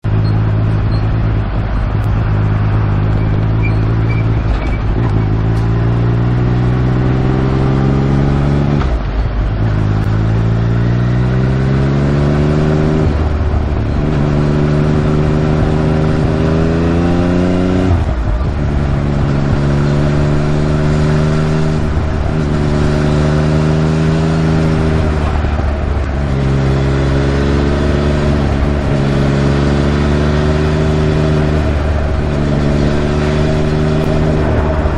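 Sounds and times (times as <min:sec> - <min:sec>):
motorcycle engine revving through gears: 0:00.0 - 0:34.9.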